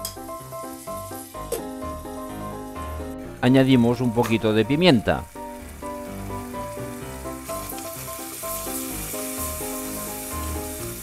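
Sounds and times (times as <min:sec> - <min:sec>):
garlic and ham sizzling in oil: 0:00.0 - 0:11.0.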